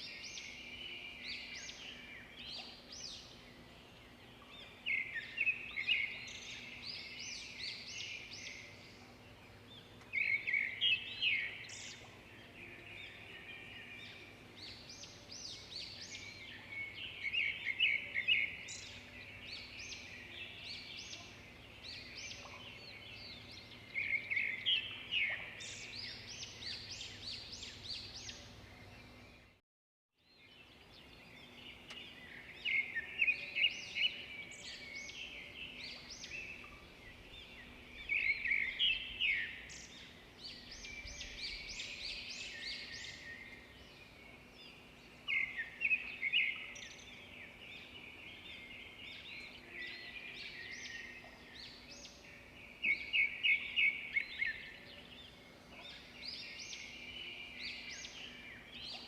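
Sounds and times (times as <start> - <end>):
faint background hiss: 0.0 - 29.5, 30.3 - 59.0
songbirds chirping: 0.0 - 29.6, 30.2 - 59.0.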